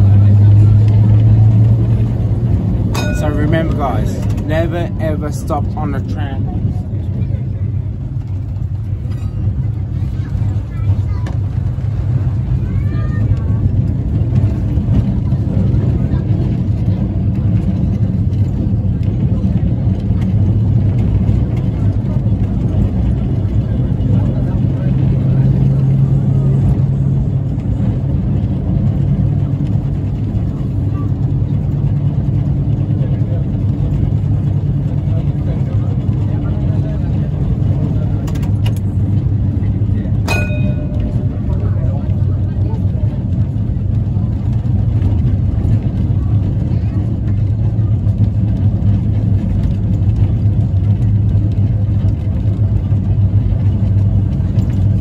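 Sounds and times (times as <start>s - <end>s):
tram motor hum: 0.0s - 55.0s
wheels rumbling on track: 0.0s - 55.0s.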